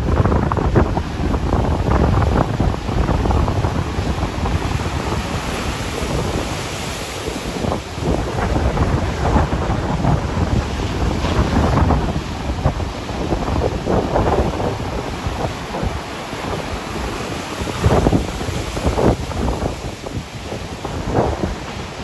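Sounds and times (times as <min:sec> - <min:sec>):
sea surf breaking: 0:00.0 - 0:22.0
wind buffeting microphone: 0:00.0 - 0:22.0.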